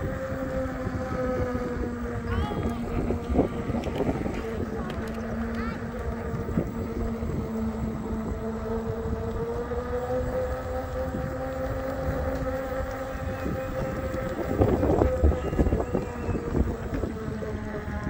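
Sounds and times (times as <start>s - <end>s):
electric motor whining: 0.0s - 18.0s
wind rumbling on microphone: 0.0s - 18.0s.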